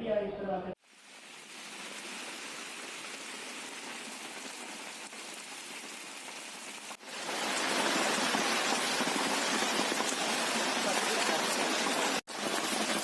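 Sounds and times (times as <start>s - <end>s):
heavy rain falling: 0.8s - 13.0s.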